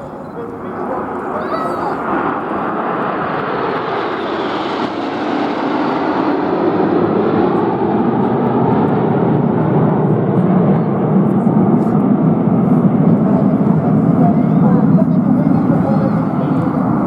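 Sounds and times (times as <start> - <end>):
aircraft engine flying past: 0.0 - 17.0.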